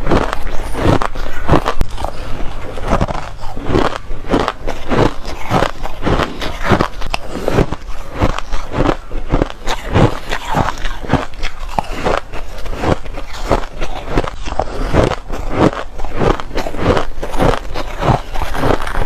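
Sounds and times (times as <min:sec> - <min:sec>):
shaved ice crunching when chewed: 0:00.0 - 0:19.0.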